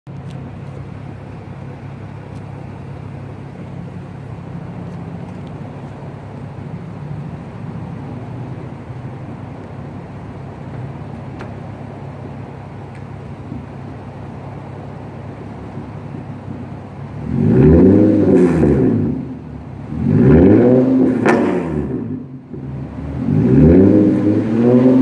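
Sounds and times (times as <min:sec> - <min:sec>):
car engine idling: 0:00.1 - 0:25.0.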